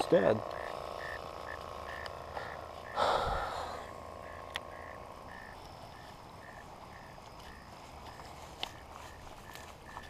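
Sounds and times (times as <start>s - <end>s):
frog calling: 0.0s - 10.0s.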